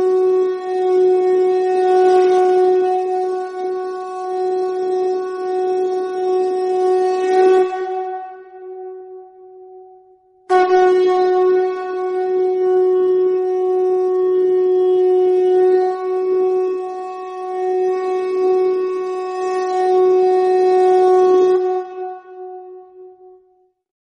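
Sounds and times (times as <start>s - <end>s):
conch shell blown: 0.0s - 23.6s.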